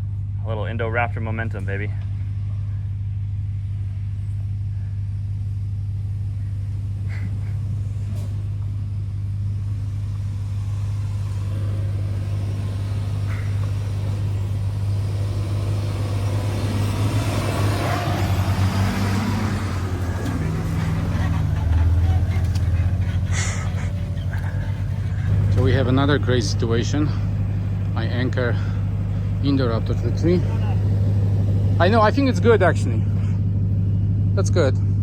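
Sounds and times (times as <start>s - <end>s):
pickup engine running under load: 0.0s - 35.0s.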